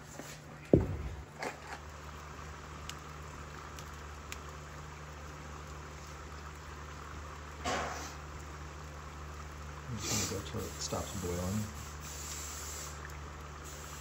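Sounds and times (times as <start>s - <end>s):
liquid nitrogen fizzing: 0.0s - 14.0s.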